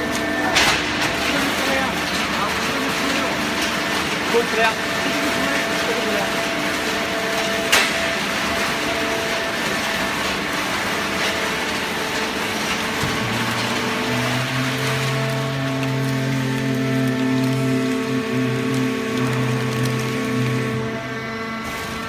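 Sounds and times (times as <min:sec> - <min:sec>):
deeper machine hum: 0:00.0 - 0:22.0.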